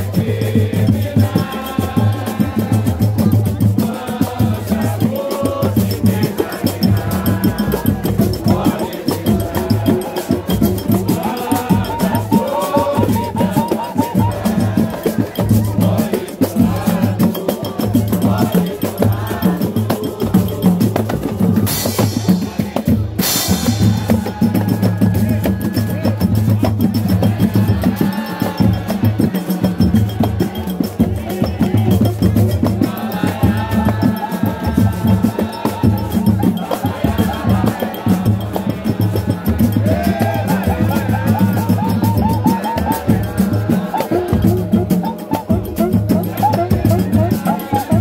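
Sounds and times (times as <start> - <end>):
hand percussion: 0.0 - 48.0
voices singing: 0.0 - 48.0.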